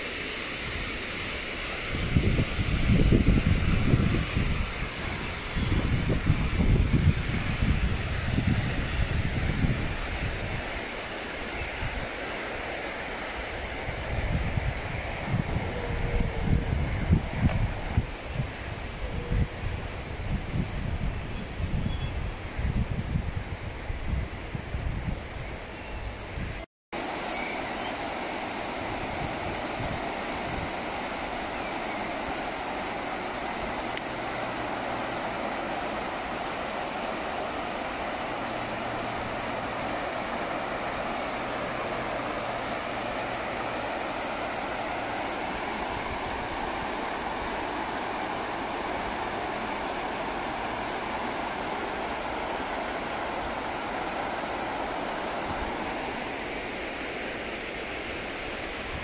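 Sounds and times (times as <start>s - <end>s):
water rushing over a weir: 0.0s - 19.0s, 27.0s - 59.0s.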